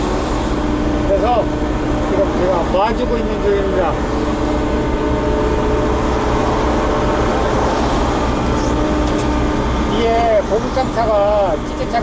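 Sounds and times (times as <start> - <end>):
excavator diesel engine humming: 0.0 - 12.0
steady engine whine: 0.0 - 12.0.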